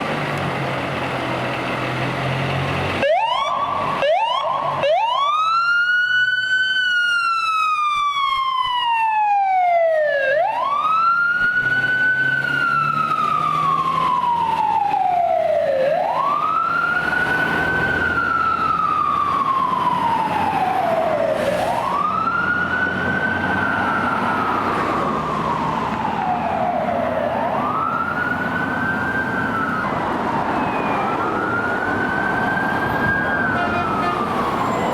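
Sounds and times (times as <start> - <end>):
fire engine siren wailing: 0.0 - 34.9
road traffic rumble: 0.0 - 34.9.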